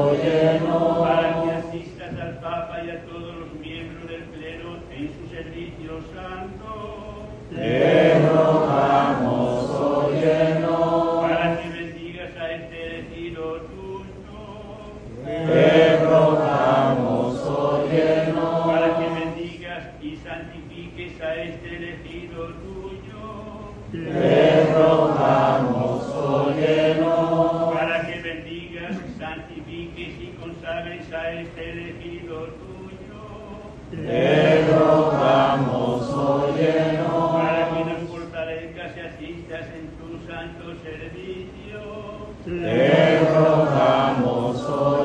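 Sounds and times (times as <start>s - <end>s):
congregation answering in unison: 0.0s - 45.0s
man chanting over microphone: 0.0s - 45.0s.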